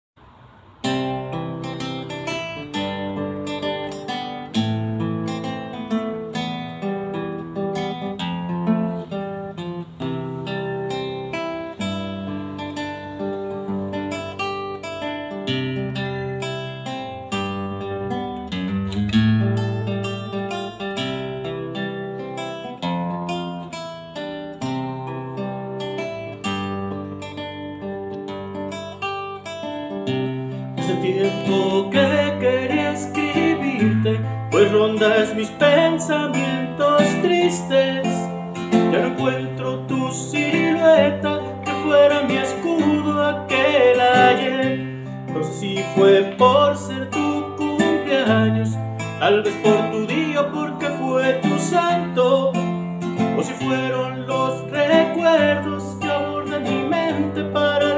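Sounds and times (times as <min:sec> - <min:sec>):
acoustic guitar strumming: 0:00.2 - 0:57.9.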